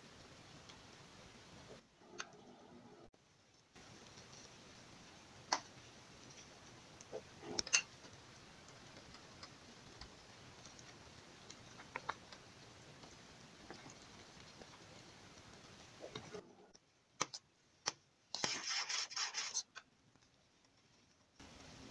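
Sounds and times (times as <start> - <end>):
pot boiling with bubble pops: 0.0 - 18.4, 19.8 - 21.9.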